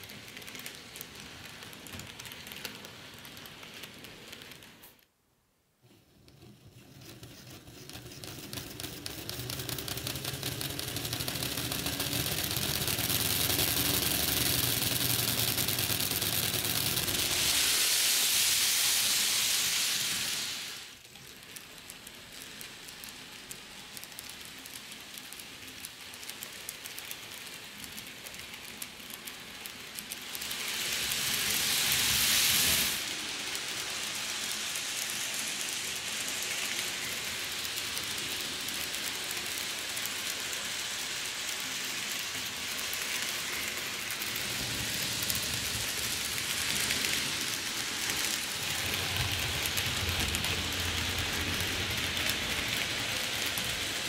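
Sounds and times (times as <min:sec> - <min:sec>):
model train motor whirring: 0:00.0 - 0:05.0, 0:06.2 - 0:54.0
wheels clicking on rails: 0:00.0 - 0:05.0, 0:06.0 - 0:54.0.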